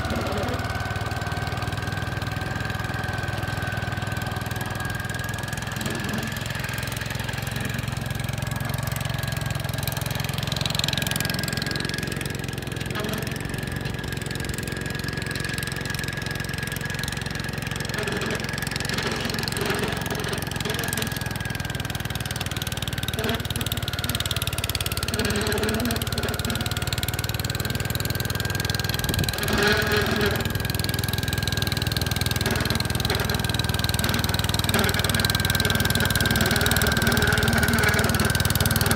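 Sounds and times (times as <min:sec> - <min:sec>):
snowblower high whine: 0:00.0 - 0:38.9
tractor engine droning: 0:00.0 - 0:38.9.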